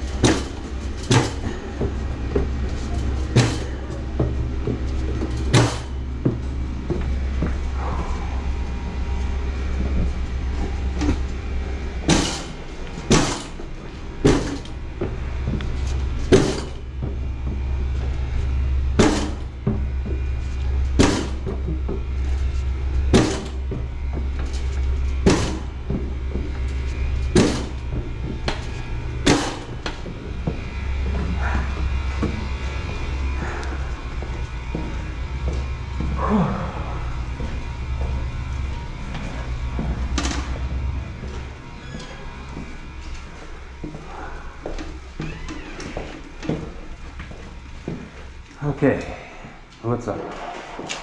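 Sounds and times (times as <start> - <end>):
machine knocking against stairs: 0.0 - 8.5, 9.7 - 48.3
steady low hum: 0.0 - 51.0.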